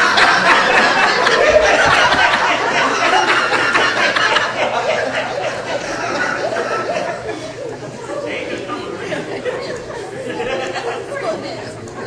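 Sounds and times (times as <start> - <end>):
crowd chatter: 0.0 - 12.0
crowd laughing: 0.0 - 12.0.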